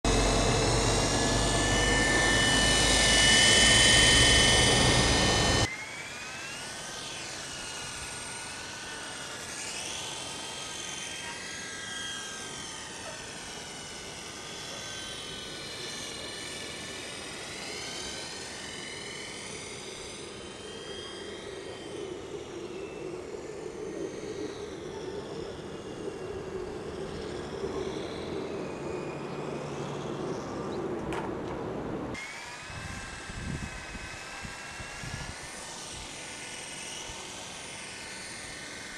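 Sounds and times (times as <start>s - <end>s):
rc helicopter motor whining: 0.0s - 31.1s, 32.1s - 38.9s.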